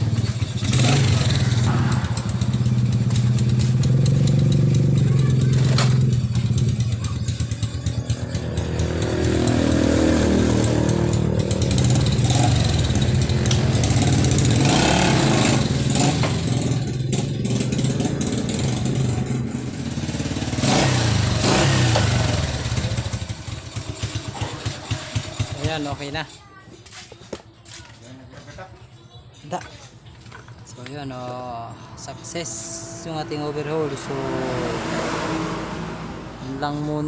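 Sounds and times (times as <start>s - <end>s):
motorcycle engine revving: 0.0s - 26.2s, 30.2s - 37.0s.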